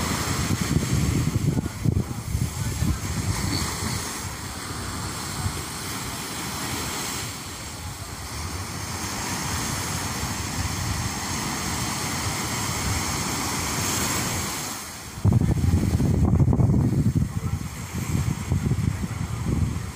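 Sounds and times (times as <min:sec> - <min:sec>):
ocean surf on rocks: 0:00.0 - 0:19.9
wind rumble on microphone: 0:00.0 - 0:19.9.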